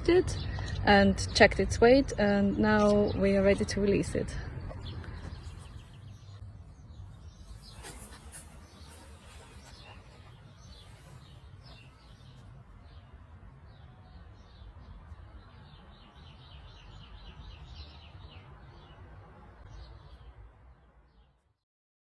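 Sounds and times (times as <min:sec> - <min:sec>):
birds chirping: 0:00.0 - 0:21.4.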